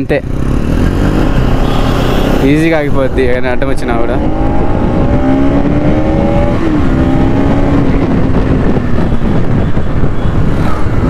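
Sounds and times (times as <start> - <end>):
motorcycle engine: 0.0 - 11.0
road noise: 0.0 - 11.0
wind noise: 0.4 - 11.0.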